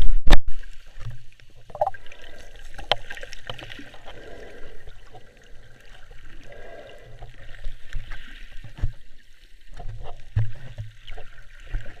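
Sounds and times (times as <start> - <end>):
water swishing and bubbling: 0.0 - 12.0.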